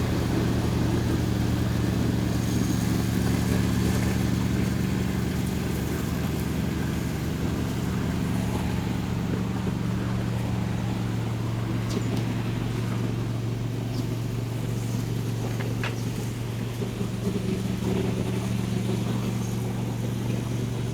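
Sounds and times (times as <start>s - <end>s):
riding mower engine running: 0.0s - 20.9s.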